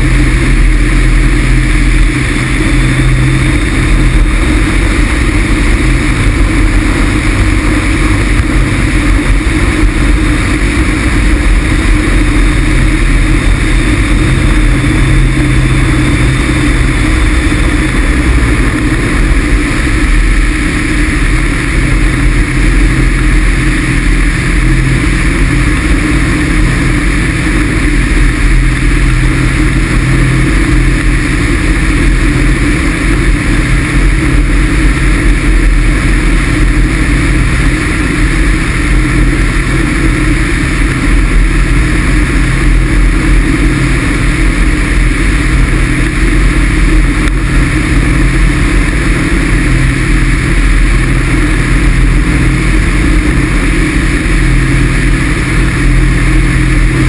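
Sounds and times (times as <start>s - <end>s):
deep rumble: 0.0s - 57.0s
loud wind rush: 0.0s - 57.0s.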